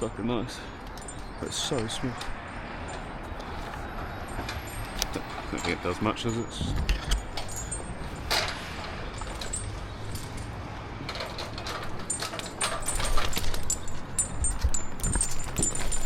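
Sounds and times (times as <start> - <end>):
metal carabiners clinking: 0.0 - 16.0.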